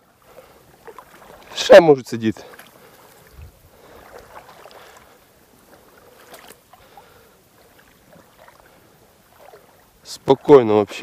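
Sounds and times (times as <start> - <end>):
pond water lapping: 0.0 - 11.0
small splashes: 0.0 - 11.0.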